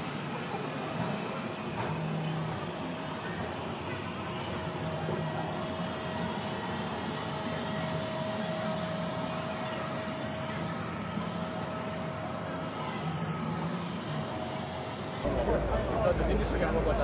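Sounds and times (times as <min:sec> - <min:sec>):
suction fan whirring hiss: 0:00.0 - 0:15.3
faint steady whine: 0:00.0 - 0:17.0.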